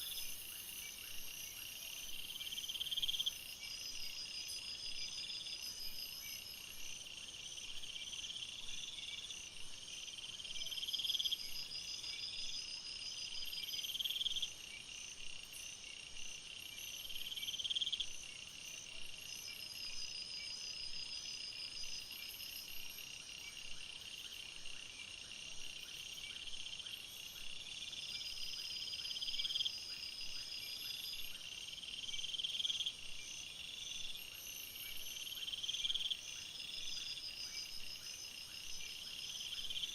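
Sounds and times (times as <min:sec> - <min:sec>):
insect pulsed trills: 0:00.0 - 0:39.9
insects chirring: 0:00.0 - 0:39.9.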